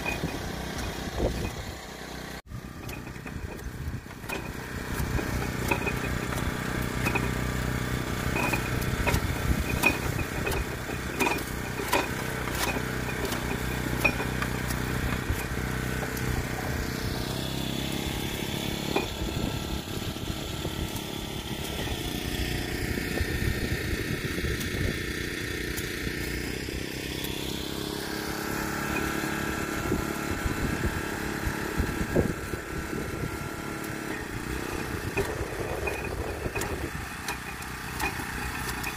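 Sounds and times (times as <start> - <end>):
knocks and rattles of cane stalks: 0.0 - 1.9, 2.5 - 23.1, 24.2 - 30.2, 33.3 - 38.9
sugarcane machine motor running: 0.0 - 38.9.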